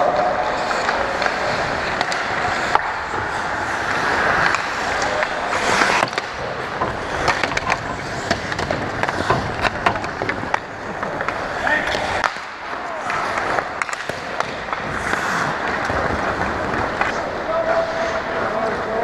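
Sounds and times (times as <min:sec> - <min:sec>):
sticks and puck clicking: 0:00.0 - 0:17.4
skates scraping on ice: 0:00.0 - 0:19.0.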